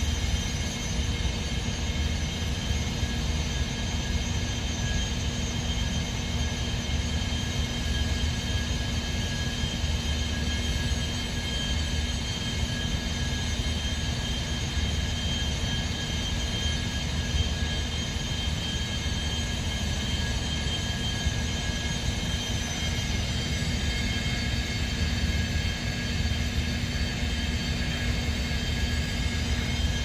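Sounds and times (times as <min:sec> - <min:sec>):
pump high whine: 0:00.0 - 0:30.0.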